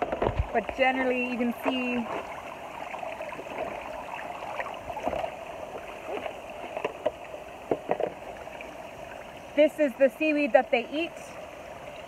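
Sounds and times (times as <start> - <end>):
small water splashes: 0.0 - 12.0
water rushing from pipes: 0.0 - 12.0.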